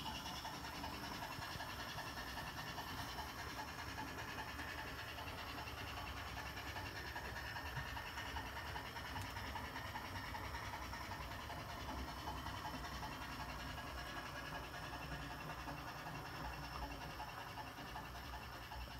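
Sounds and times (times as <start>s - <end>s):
model locomotive running on track: 0.0s - 18.9s.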